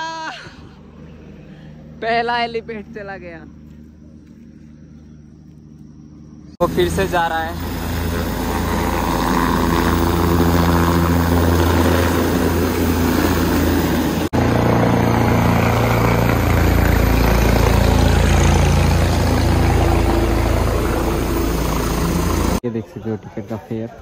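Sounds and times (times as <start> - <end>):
helicopter rotor and turbine: 0.0 - 22.6.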